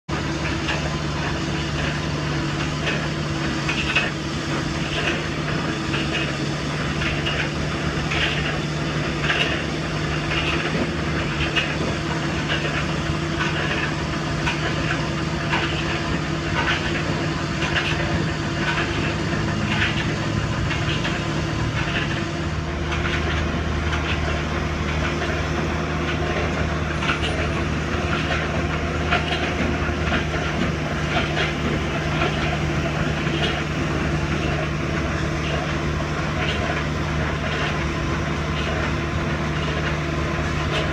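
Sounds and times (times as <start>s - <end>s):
drill rig engine under load: 0.1s - 40.9s.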